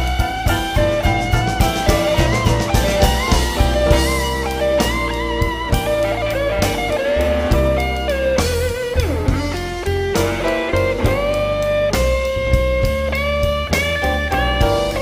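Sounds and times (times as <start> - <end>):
electric guitar lead with bent notes: 0.0 - 15.0
instrumental blues-rock music: 0.0 - 15.0.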